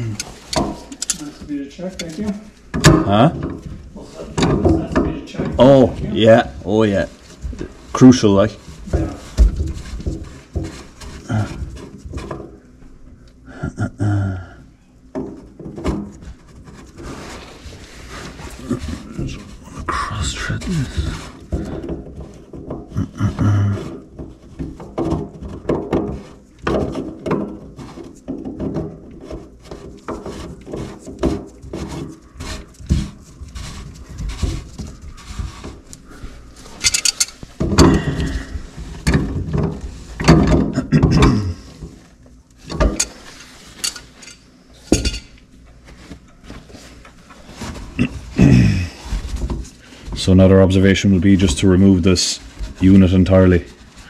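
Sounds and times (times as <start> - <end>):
drain pipe fittings clattering: 0.0 - 12.7, 20.6 - 54.0.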